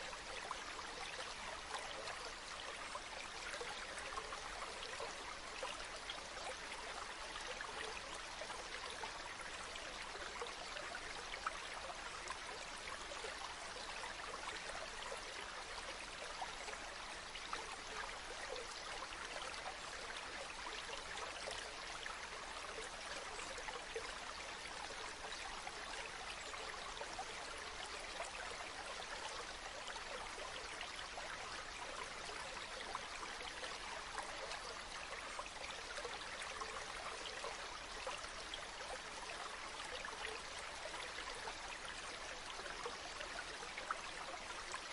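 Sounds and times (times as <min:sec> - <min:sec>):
water flowing and trickling: 0:00.0 - 0:44.9.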